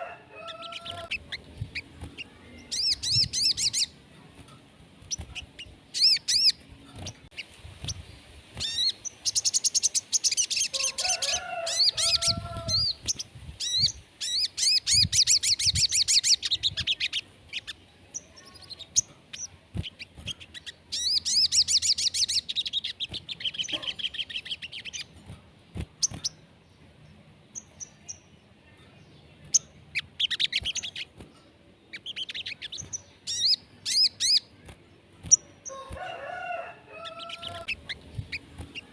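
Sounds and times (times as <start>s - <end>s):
songbird chirping trills: 0.0s - 38.9s.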